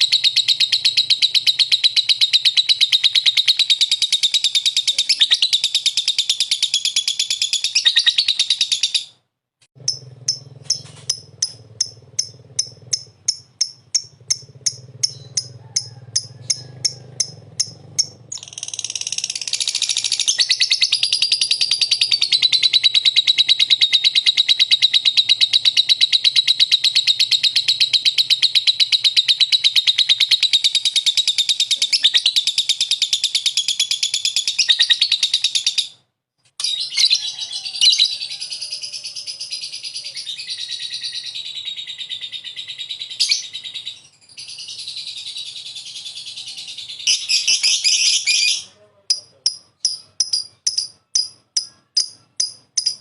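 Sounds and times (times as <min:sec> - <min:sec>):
bird sharp chirps: 0:00.0 - 0:09.2, 0:09.8 - 0:36.0, 0:36.6 - 0:53.0
lovebird chattering trill: 0:00.0 - 0:09.2, 0:09.8 - 0:36.0, 0:36.6 - 0:53.0.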